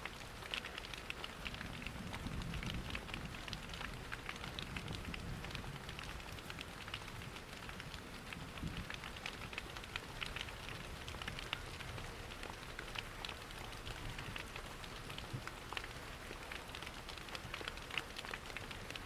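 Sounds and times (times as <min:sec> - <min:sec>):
steady rain: 0:00.0 - 0:19.0
log fire crackling: 0:00.1 - 0:19.0.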